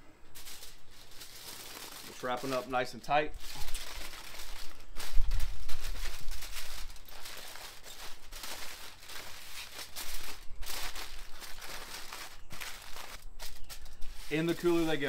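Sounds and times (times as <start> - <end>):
aluminium foil crinkling: 0.3 - 15.0.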